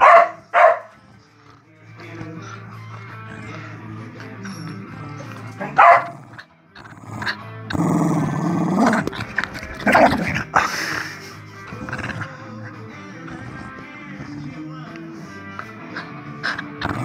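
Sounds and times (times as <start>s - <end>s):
background music: 0.0s - 17.0s
dog play-growling: 0.0s - 17.0s.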